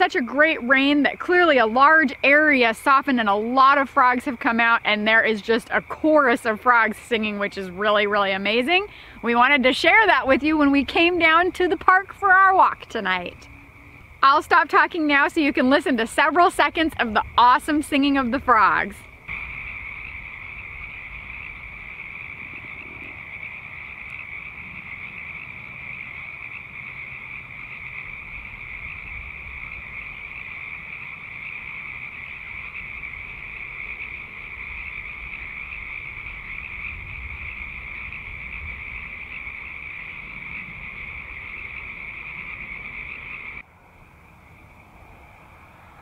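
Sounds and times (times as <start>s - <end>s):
frogs calling in chorus: 0.0s - 46.0s.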